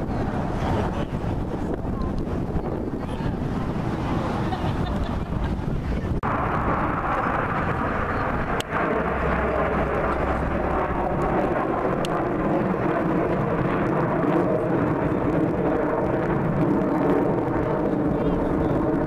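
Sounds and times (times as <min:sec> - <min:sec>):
airplane engine rumble: 0:00.0 - 0:19.0.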